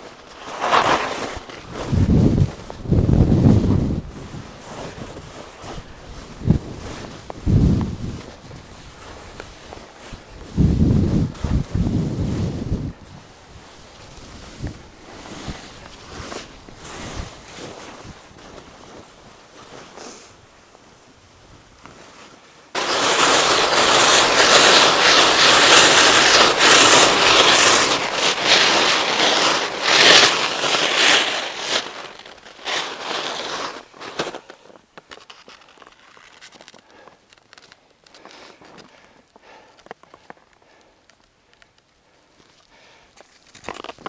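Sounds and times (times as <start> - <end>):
skis scraping on crusty snow: 0.0 - 36.8.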